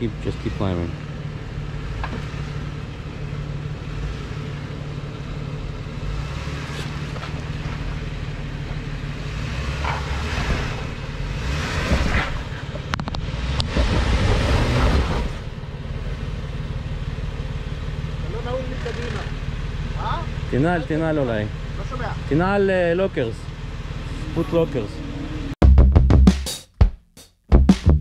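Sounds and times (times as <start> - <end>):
engine running low: 0.0 - 25.6.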